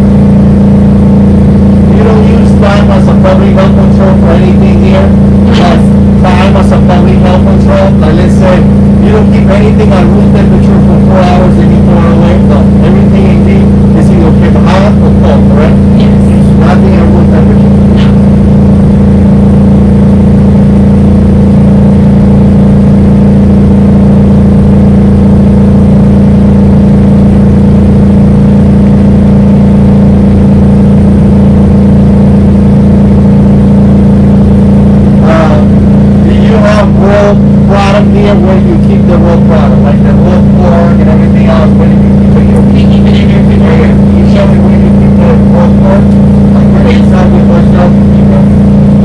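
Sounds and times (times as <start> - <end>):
generator humming: 0.0 - 49.0.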